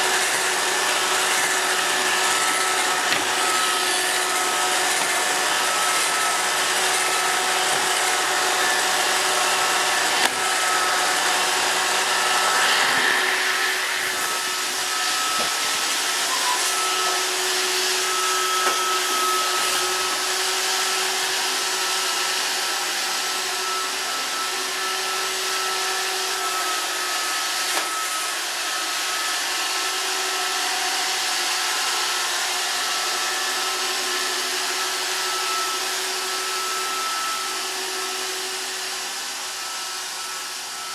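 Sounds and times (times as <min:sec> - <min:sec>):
robot vacuum whirring: 0:00.0 - 0:40.9.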